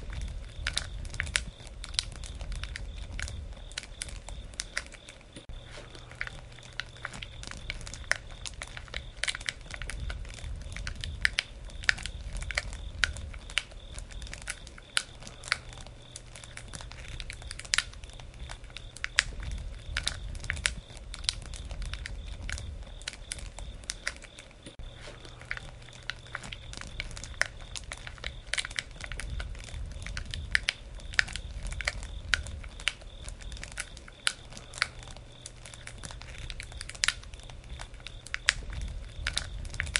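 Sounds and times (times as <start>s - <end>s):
burning wood popping and snapping: 0.0s - 39.9s
low rumble of flame: 0.0s - 39.9s.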